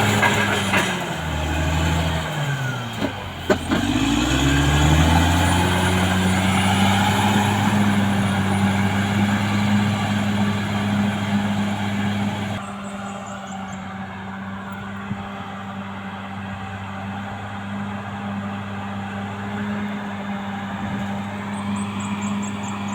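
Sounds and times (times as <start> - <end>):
bulldozer diesel engine under load: 0.0 - 22.9.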